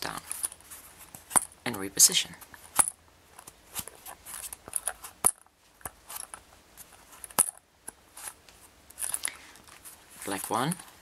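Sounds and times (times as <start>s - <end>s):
cords rustling: 0.0s - 11.0s.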